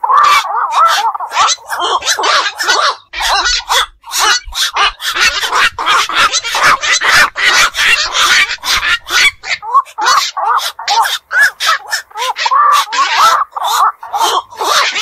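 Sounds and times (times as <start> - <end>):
herons croaking: 0.0 - 15.0.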